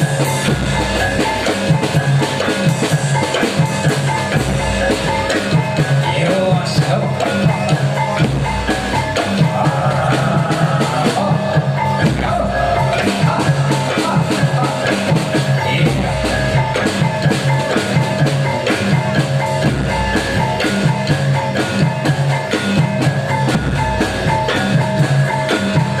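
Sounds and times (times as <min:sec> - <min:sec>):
drums and percussion: 0:00.0 - 0:26.0.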